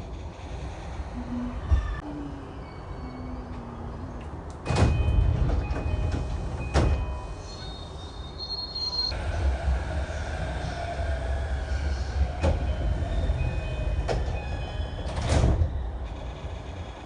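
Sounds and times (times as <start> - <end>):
train low rumble: 0.0 - 17.0
train doors sliding: 2.8 - 16.9.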